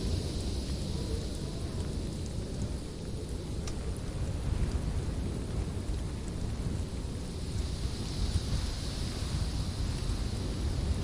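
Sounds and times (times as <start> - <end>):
fire rumbling and crackling: 0.0 - 11.0.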